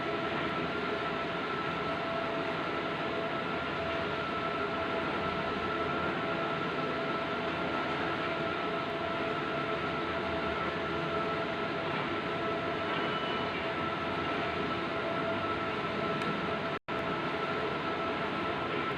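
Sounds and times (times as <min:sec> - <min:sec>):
printer mechanical whir: 0:00.0 - 0:18.9.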